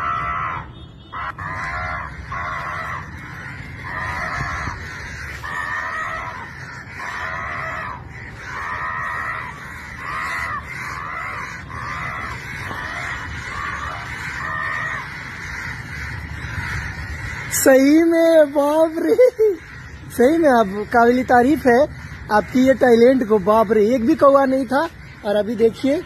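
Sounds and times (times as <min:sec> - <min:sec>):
crow cawing: 0:00.0 - 0:26.0.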